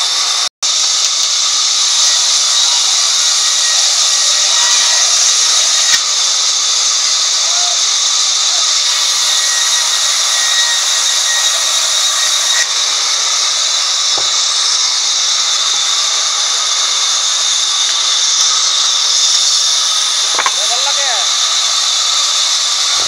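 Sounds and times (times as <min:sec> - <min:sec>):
band saw cutting log: 0:00.0 - 0:23.0.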